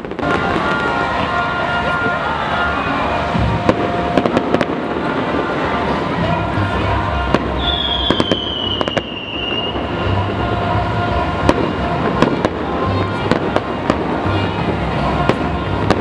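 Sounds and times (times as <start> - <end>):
firework whistle: 0.0 - 16.0
fireworks bangs and crackles: 0.0 - 16.0.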